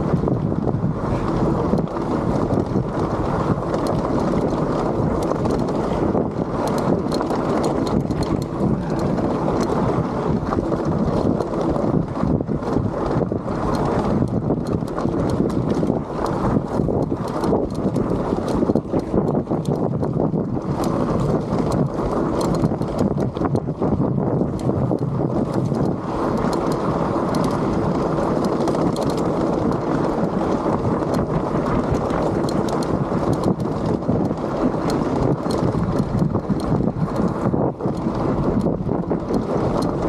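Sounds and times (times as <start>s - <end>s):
bike rattling over stones: 0.0s - 40.0s
tyre noise on rocky trail: 0.0s - 40.0s
wind buffeting microphone: 0.0s - 40.0s.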